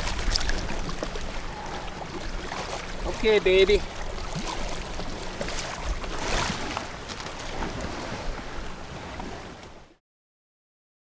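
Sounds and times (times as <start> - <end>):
water sloshing around boat: 0.0 - 10.0.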